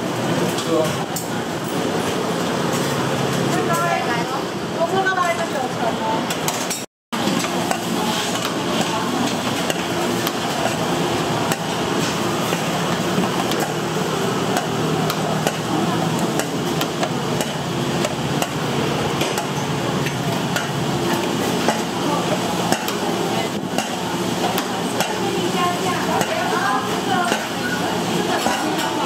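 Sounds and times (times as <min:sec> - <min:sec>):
kitchen background din: 0:00.2 - 0:29.0.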